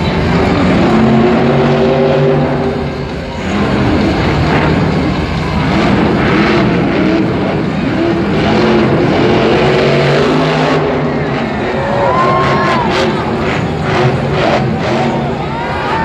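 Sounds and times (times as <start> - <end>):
truck engines revving hard: 0.0 - 16.0.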